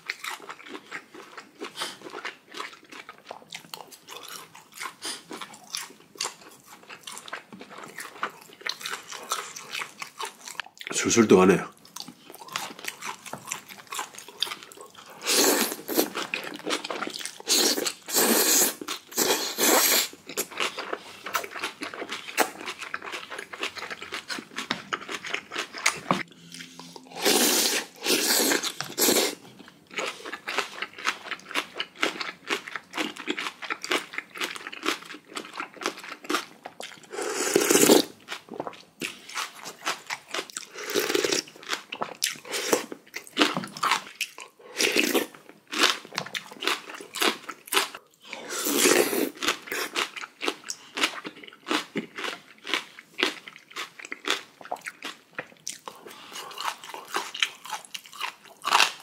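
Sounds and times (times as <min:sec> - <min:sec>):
crunchy chewing and biting: 0:00.0 - 0:10.9, 0:11.9 - 0:59.0.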